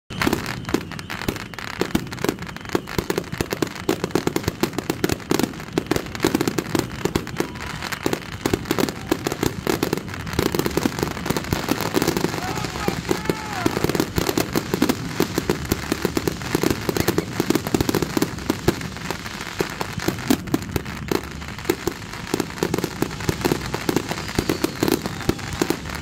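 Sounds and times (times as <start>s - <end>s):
fireworks barrage: 0.1s - 26.0s.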